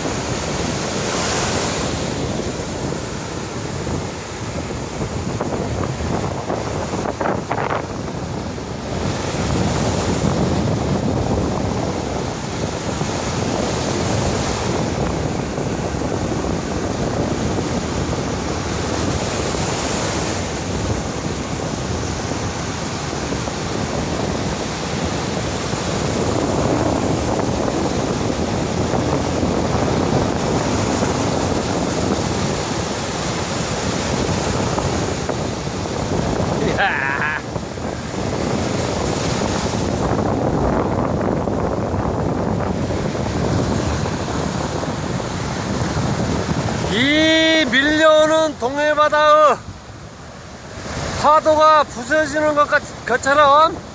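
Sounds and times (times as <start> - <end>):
sea waves breaking on shore: 0.0 - 53.9
wind rumbling on microphone: 0.0 - 53.9.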